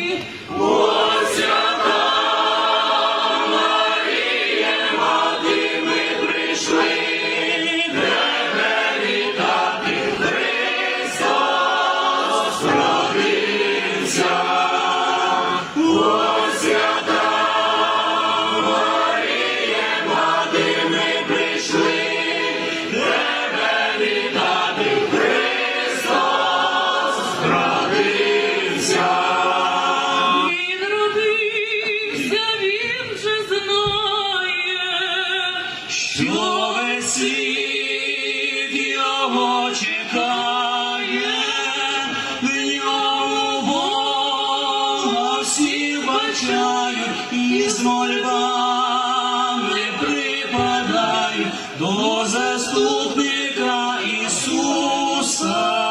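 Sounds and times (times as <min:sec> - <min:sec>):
choir singing a carol: 0:00.0 - 0:32.5, 0:34.9 - 0:55.9.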